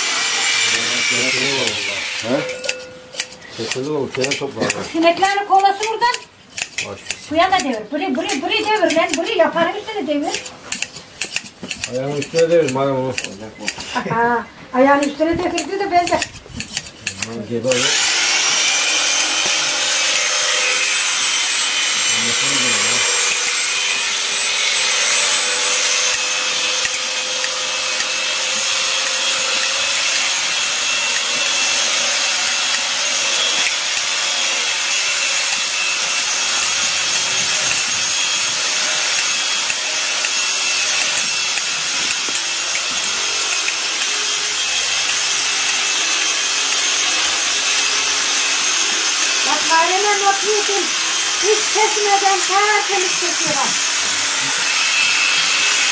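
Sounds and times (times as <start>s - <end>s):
shearing handpieces buzzing: 0.0s - 55.9s.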